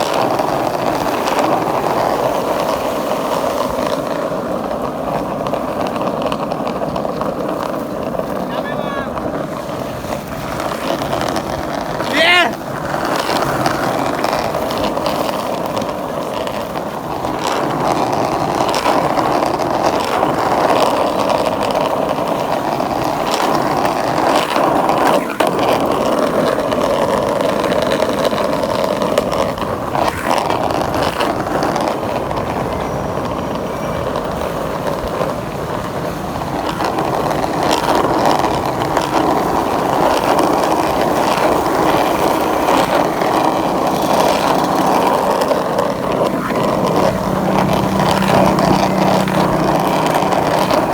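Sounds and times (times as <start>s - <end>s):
skateboard knocks: 0.0s - 50.9s
skateboard wheels rolling on pavement: 0.0s - 50.9s.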